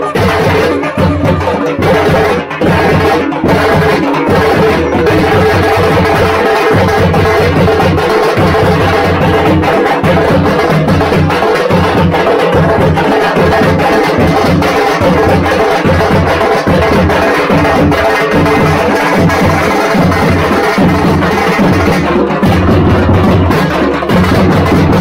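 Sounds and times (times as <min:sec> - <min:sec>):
barrel drum: 0:00.0 - 0:25.0
frame drums beaten with sticks: 0:00.0 - 0:25.0.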